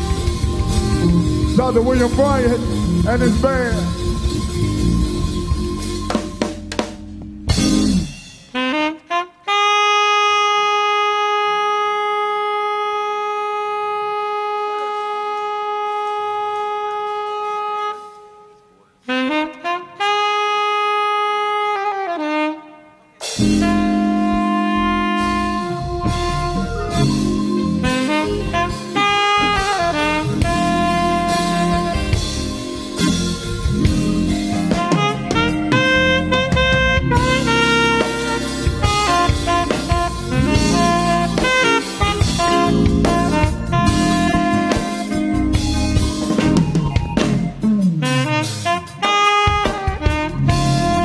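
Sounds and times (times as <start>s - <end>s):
alto saxophone solo: 0.0s - 6.6s, 7.5s - 51.0s
band with drums bass and keyboard: 0.0s - 51.0s.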